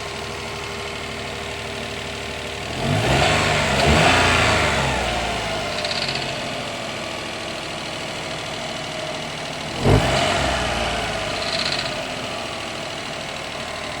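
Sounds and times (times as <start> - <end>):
car engine idling: 0.0 - 14.0
engine rattle: 0.0 - 14.0.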